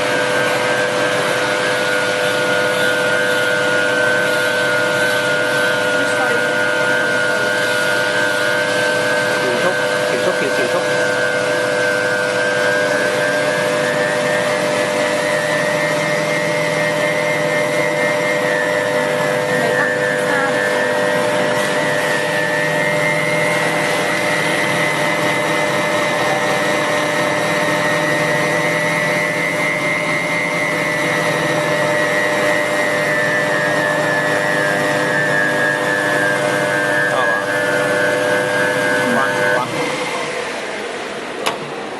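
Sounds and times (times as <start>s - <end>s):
electric motor high whine: 0.0s - 41.9s.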